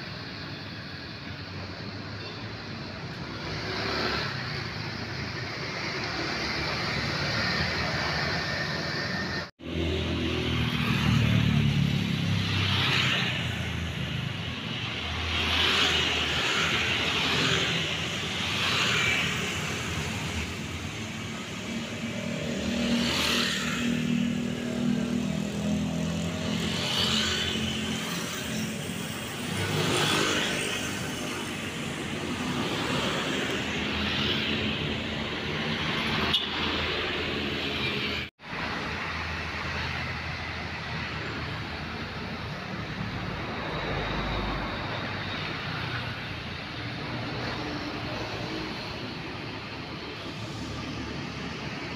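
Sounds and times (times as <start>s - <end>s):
cars passing: 0.0s - 51.9s
motorcycles passing: 1.3s - 51.9s.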